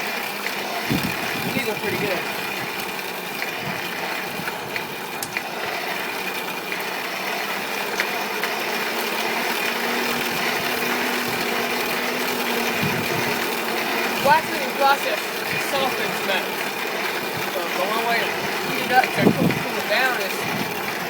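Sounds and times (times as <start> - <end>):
small motor running: 0.0 - 21.0.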